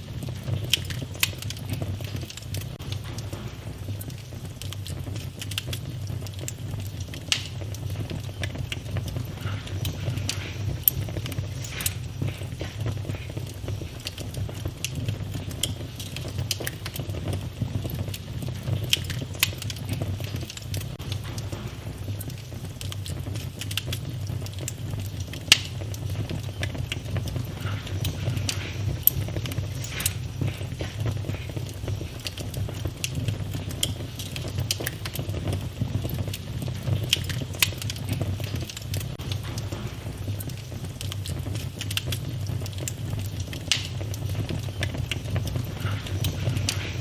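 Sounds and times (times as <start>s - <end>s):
fire crackling and popping: 0.0s - 47.0s
low rumble of flame: 0.0s - 47.0s.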